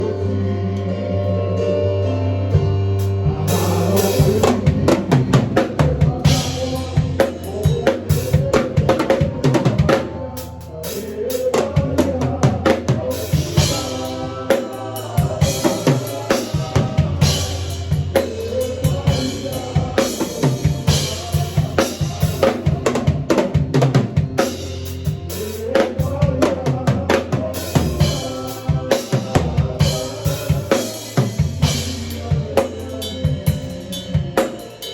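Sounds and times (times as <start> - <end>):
held low chords: 0.0 - 34.9
drum kit groove: 2.5 - 34.9.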